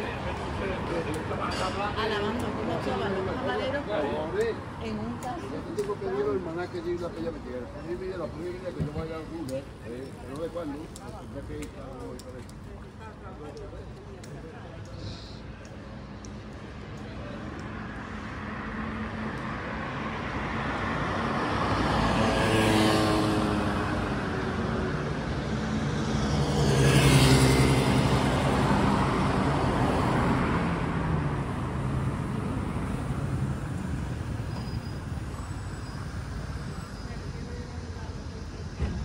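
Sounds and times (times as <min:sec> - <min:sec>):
cars passing by: 0:00.0 - 0:39.0
street traffic: 0:00.0 - 0:39.0.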